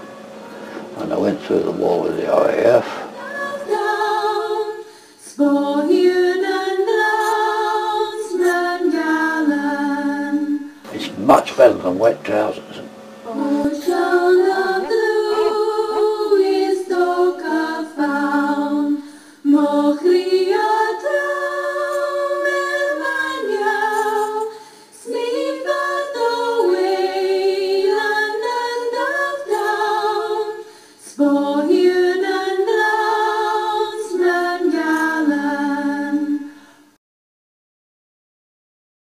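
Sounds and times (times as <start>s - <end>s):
a cappella singing: 0.0s - 11.4s, 12.8s - 37.0s.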